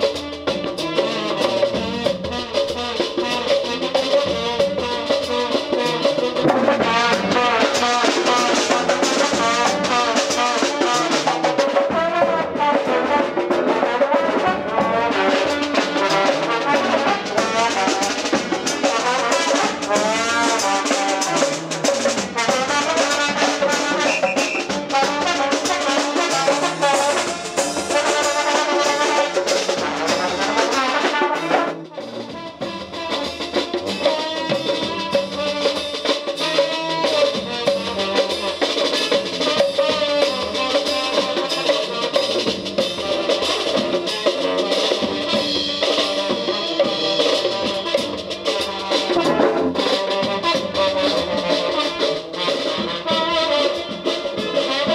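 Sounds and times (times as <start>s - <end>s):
brass band playing: 0.0s - 54.9s
drum kit with cymbals: 0.0s - 54.9s.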